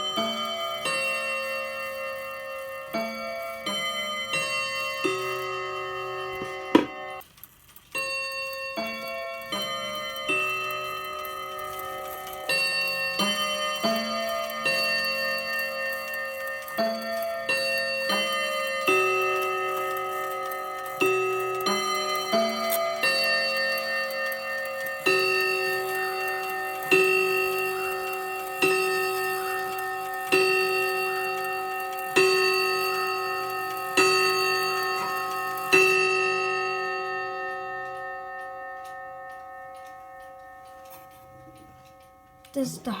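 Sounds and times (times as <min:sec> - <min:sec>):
mantel clock chime: 0:00.0 - 0:43.0.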